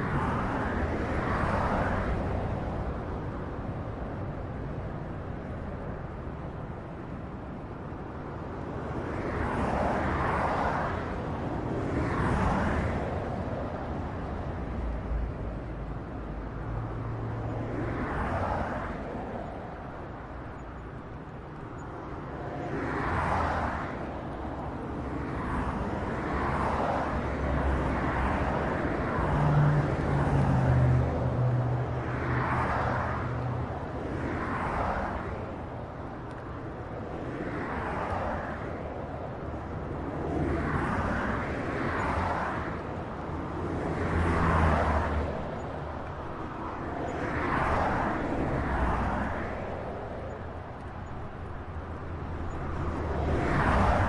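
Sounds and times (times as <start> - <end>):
traffic roar: 0.0 - 54.0
vehicles passing: 0.0 - 54.0.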